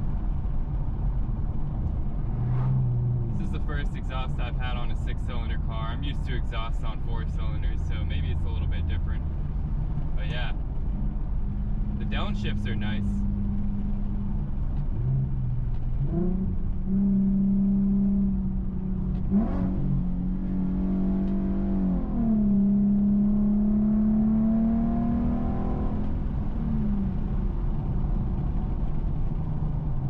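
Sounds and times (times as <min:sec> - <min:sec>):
car engine and exhaust: 0:00.0 - 0:30.0.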